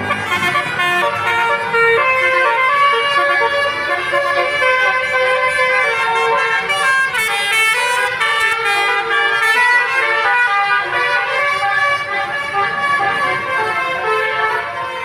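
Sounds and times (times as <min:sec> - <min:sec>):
musical bus air horn: 0:00.0 - 0:15.0.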